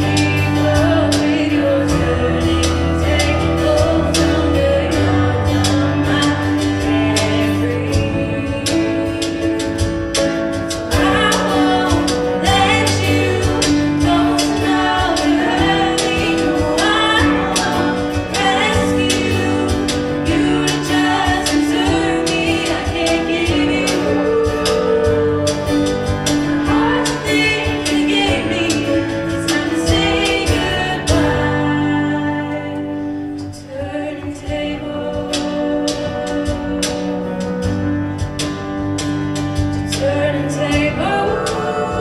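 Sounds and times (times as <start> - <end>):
voices singing: 0.0 - 38.2, 39.9 - 42.0.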